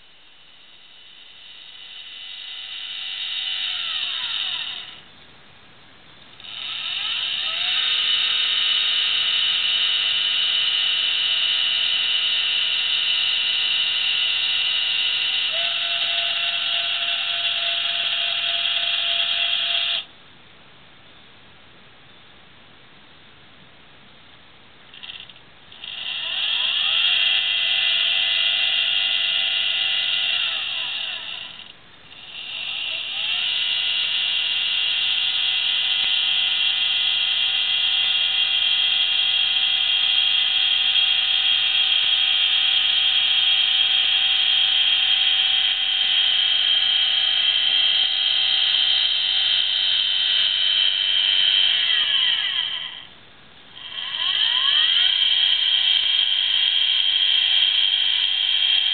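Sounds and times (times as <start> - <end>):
motor drive whining: 0.0 - 5.1, 6.3 - 20.1, 24.9 - 58.9.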